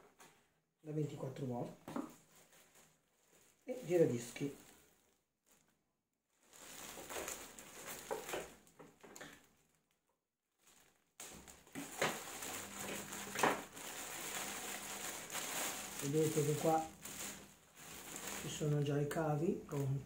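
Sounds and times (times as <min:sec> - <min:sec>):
plastic wrapping crinkling: 0:02.2 - 0:20.0.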